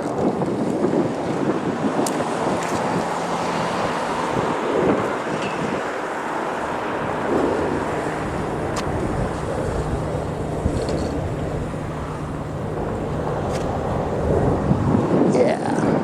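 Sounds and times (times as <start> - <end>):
wind on microphone: 0.0 - 16.0
low hum: 2.0 - 15.2.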